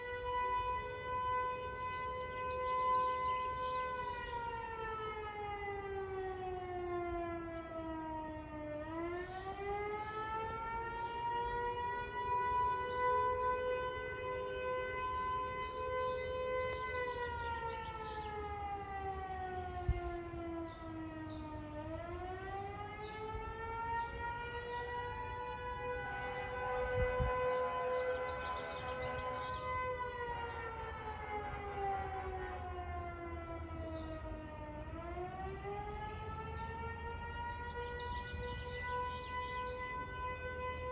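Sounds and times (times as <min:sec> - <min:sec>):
civil defense sirens wailing: 0:00.0 - 0:40.9.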